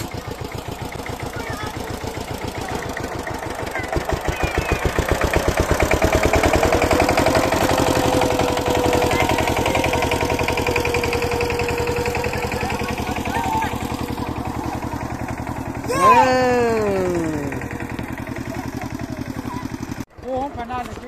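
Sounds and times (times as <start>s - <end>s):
tractor engine revving: 0.0s - 21.0s.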